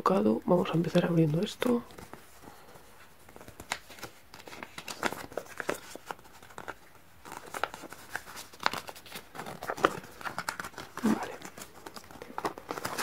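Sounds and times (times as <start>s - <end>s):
cardboard and paper rustling: 0.1s - 13.0s.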